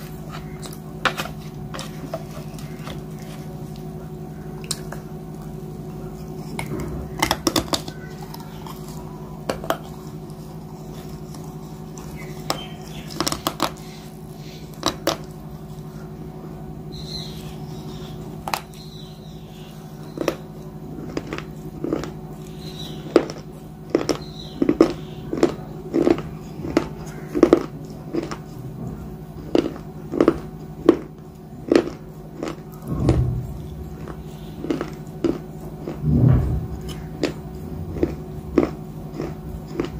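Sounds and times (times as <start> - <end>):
chewing crunches: 0.0 - 4.0, 4.6 - 16.0, 20.0 - 39.9
steady low hum: 0.0 - 39.9.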